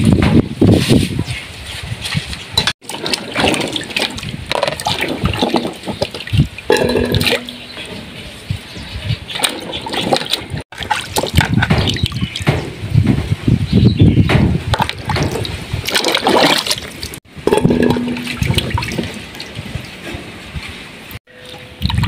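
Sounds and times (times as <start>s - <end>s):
water splashing and sloshing: 0.2s - 13.6s, 14.3s - 22.0s.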